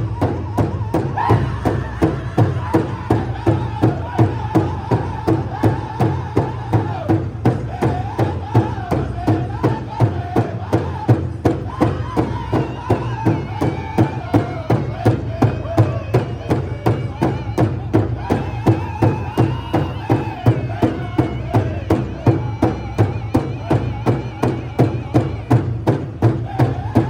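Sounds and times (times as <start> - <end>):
drum beating: 0.0 - 27.0
people singing: 0.0 - 27.0.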